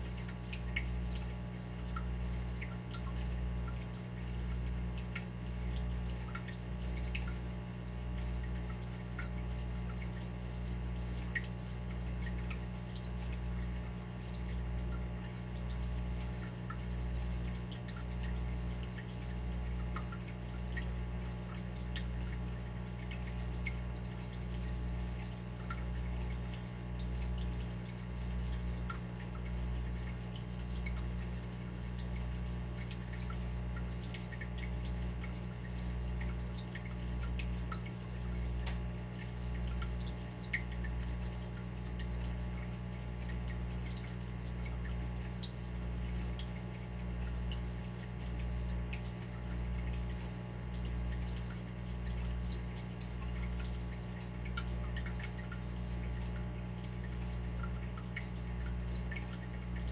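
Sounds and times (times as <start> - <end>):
water dripping and trickling: 0.0 - 59.9.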